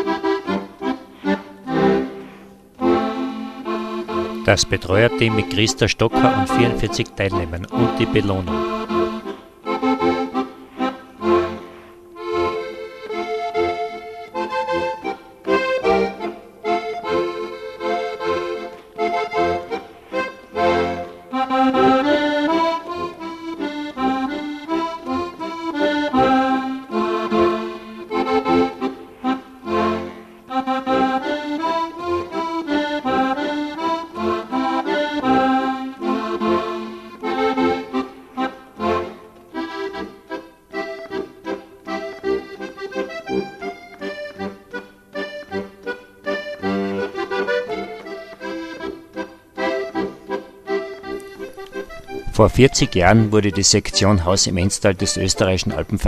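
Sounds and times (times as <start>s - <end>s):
accordion folk music: 0.0s - 56.0s.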